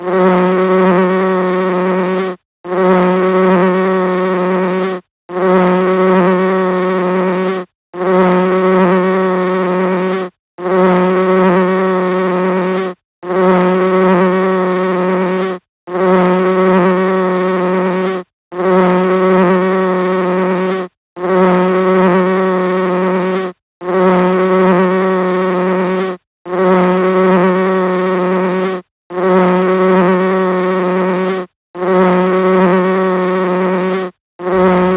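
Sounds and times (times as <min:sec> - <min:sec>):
honeybee wings buzzing: 0:00.0 - 0:34.9.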